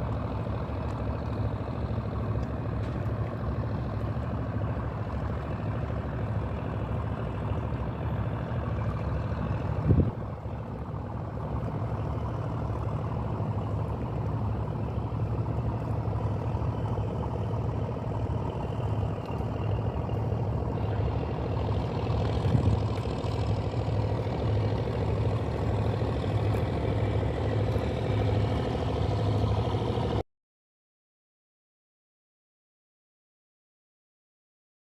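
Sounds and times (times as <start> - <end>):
boat engine humming: 0.0 - 30.2.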